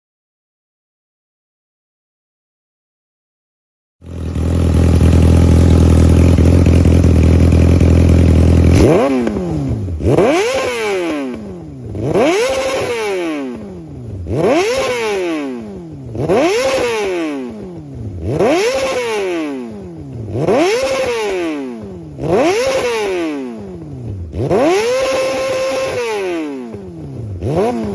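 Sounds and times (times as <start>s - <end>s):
motorcycle engine idling and revving: 4.0s - 27.9s.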